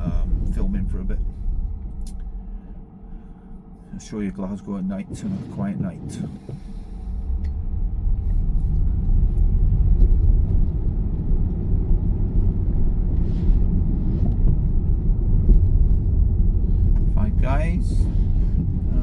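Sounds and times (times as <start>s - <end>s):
road and tyre noise in car: 0.0s - 19.0s.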